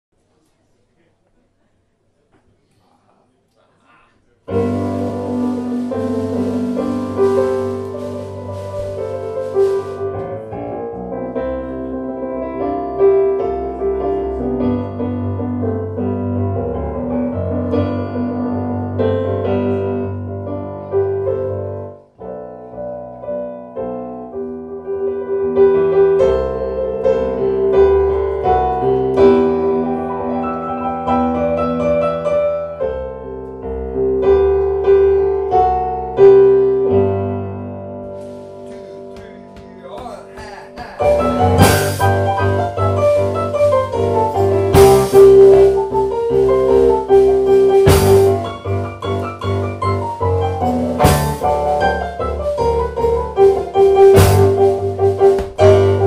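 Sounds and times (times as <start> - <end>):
piano chords and melody: 4.5 - 56.0.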